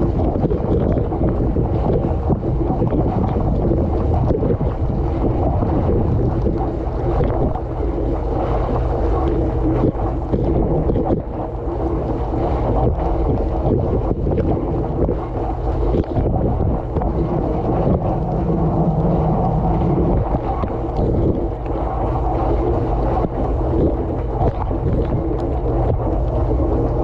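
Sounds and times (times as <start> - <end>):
dishwasher pump hum: 0.0 - 27.0.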